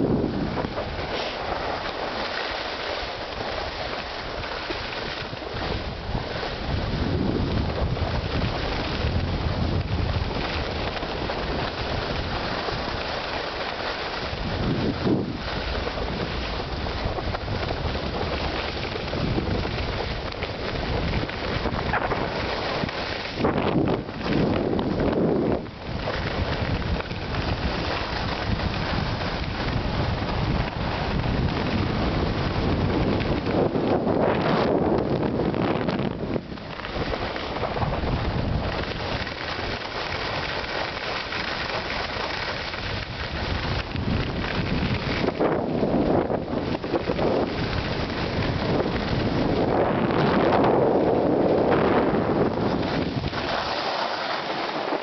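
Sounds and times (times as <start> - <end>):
skis sliding on snow: 0.0 - 55.0
wind rushing over microphone: 0.0 - 55.0.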